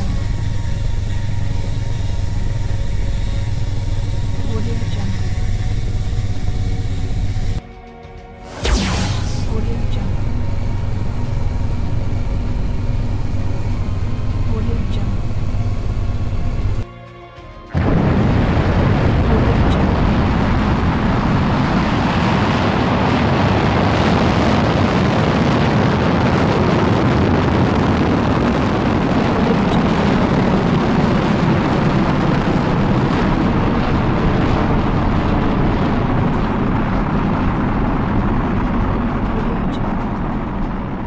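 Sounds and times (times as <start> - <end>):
deep noisy rumble: 0.0 - 7.6, 8.5 - 16.8, 17.8 - 41.0.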